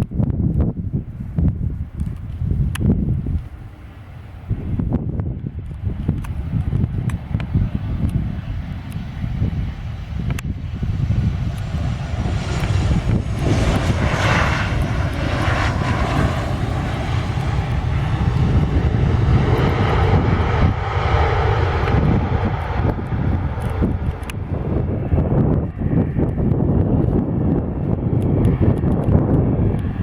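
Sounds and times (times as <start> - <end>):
airliner engines rumbling: 0.0 - 30.0.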